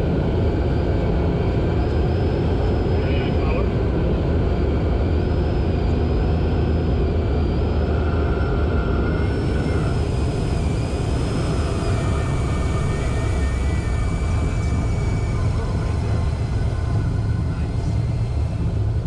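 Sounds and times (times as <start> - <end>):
plane engine and propeller drone: 0.0 - 19.0.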